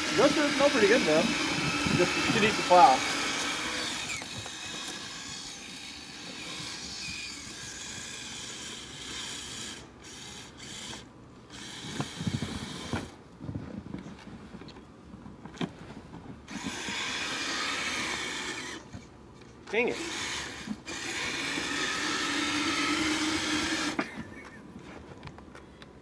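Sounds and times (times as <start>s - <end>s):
toy electric motor and tracks: 0.0s - 13.2s, 16.5s - 24.6s.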